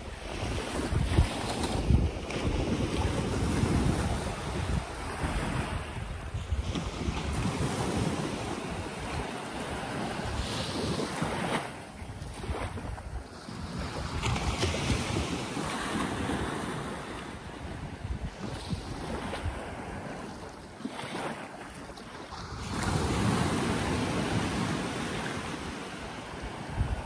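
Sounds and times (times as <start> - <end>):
waves washing on beach: 0.0 - 27.0
wind buffeting microphone: 0.0 - 27.0.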